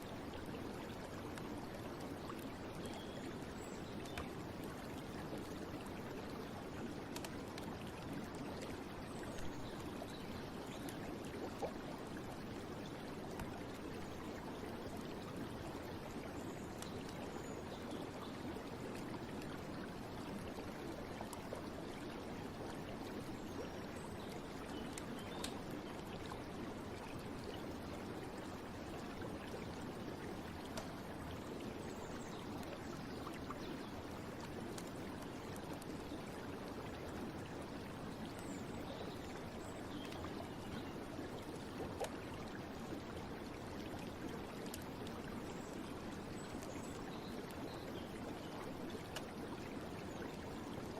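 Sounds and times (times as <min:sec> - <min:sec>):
stream water flowing: 0:00.0 - 0:50.9.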